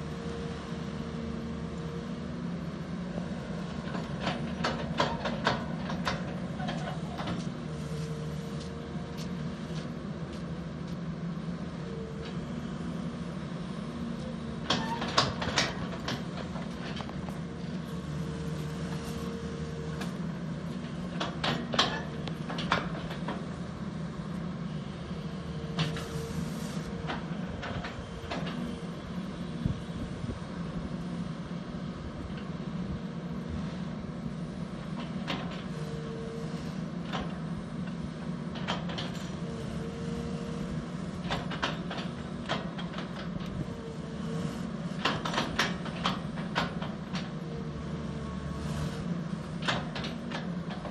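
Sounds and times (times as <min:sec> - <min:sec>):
excavator diesel engine: 0:00.0 - 0:50.9.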